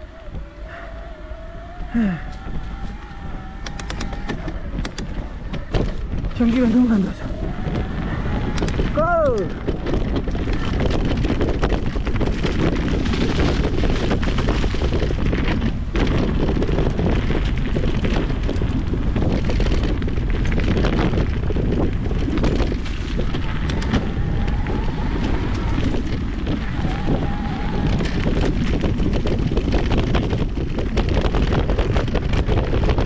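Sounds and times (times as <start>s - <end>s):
bike knocks and rattles: 0.0s - 33.0s
tyres rushing on dirt trail: 0.0s - 33.0s
wind buffeting microphone: 0.0s - 33.0s.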